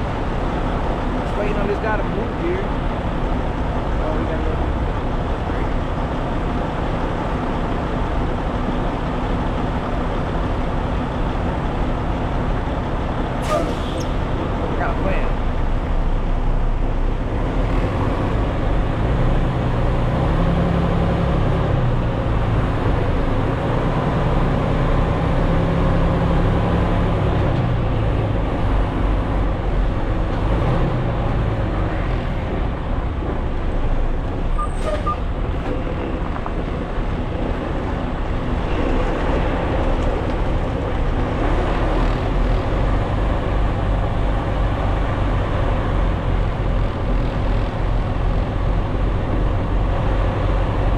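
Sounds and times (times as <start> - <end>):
truck diesel engine rumbling: 0.0 - 50.9.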